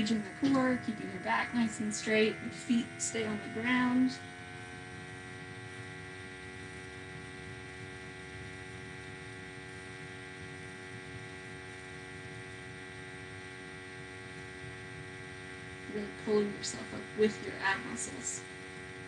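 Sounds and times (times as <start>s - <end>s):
hum of held tones: 0.0s - 19.0s.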